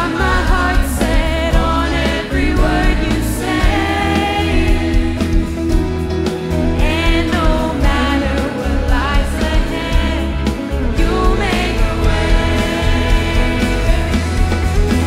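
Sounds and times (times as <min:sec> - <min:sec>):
choir singing: 0:00.0 - 0:05.8, 0:06.8 - 0:15.0
woman singing lead vocals: 0:00.0 - 0:05.9, 0:06.6 - 0:14.6
rock band playing: 0:00.0 - 0:15.0.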